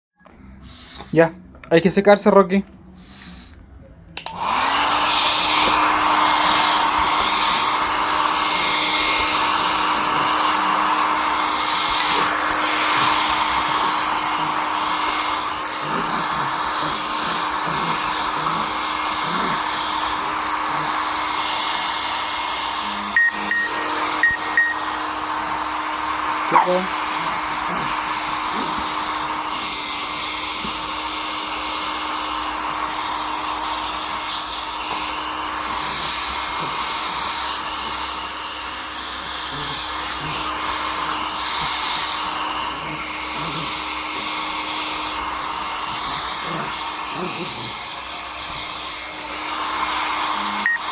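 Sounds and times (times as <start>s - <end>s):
hair dryer running: 4.2s - 50.9s.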